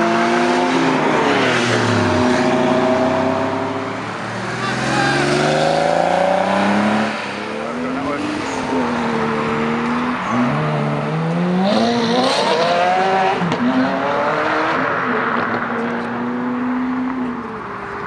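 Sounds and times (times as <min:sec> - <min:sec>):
car engine accelerating hard: 0:00.0 - 0:17.5.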